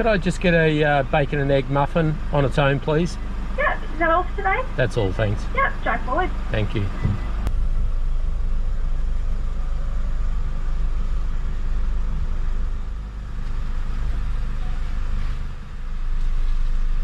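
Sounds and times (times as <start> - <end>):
car engine rumble inside cabin: 0.0 - 17.0.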